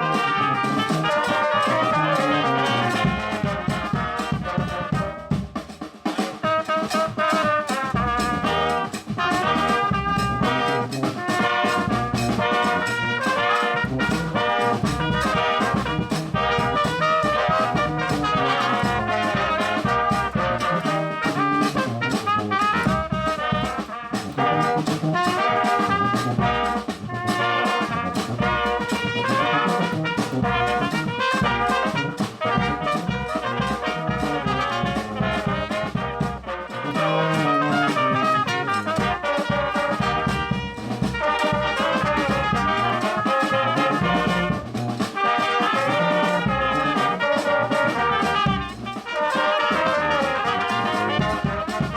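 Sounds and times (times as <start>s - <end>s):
steady drum beat: 0.0s - 51.9s
trumpet and trombone melody: 0.0s - 51.9s.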